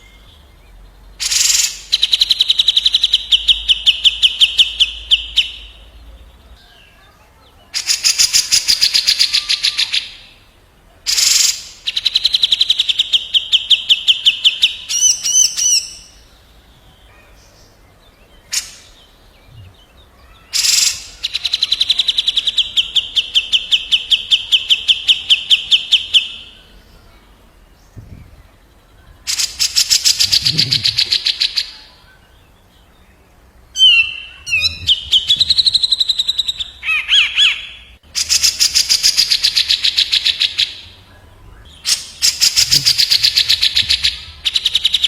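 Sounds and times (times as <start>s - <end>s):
birds calling with rolling trills: 0.0s - 45.0s
warbled bird phrase: 1.2s - 16.2s, 16.8s - 45.0s.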